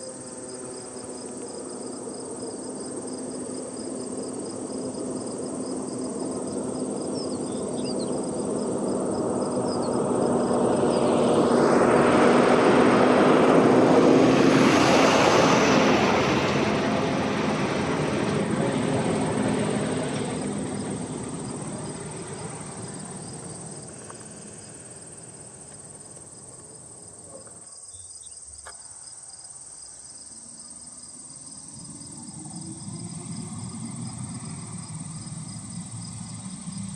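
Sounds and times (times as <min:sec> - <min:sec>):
crickets and insects trilling: 0:00.0 - 0:36.9.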